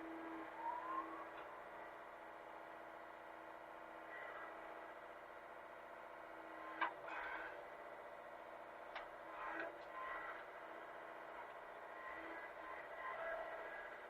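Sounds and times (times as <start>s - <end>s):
excavator engine running: 0.0s - 14.0s.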